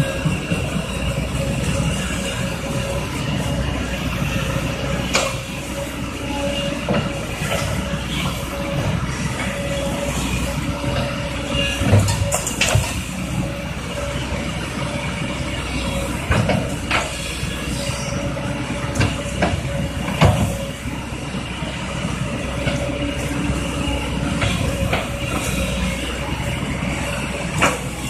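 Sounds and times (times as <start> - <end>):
excavator engine rumble: 0.0 - 28.0.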